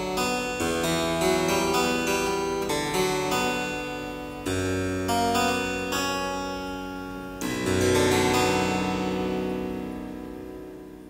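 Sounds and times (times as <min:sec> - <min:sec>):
harpsichord chords: 0:00.0 - 0:11.0.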